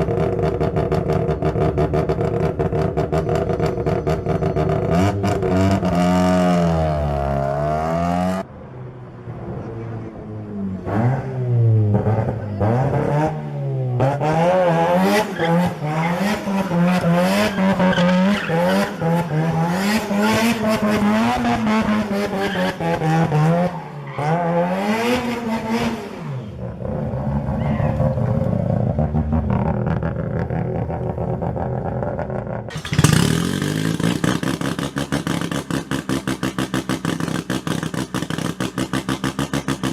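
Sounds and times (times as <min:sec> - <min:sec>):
rotary car engines revving: 0:00.0 - 0:39.9.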